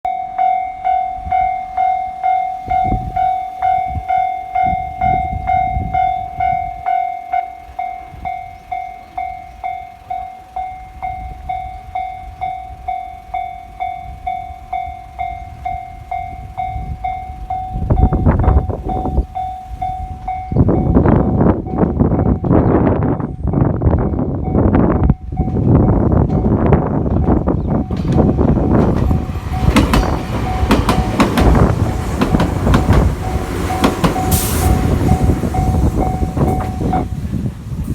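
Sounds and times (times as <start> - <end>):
level-crossing alarm dinging: 0.1 - 23.6, 27.4 - 37.3
train rumbling and clattering: 0.4 - 37.9.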